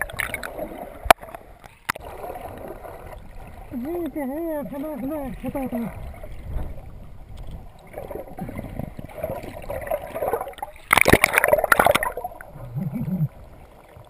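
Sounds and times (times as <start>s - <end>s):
splashing and bubbles: 0.0s - 14.0s
underwater churning water: 0.0s - 14.0s.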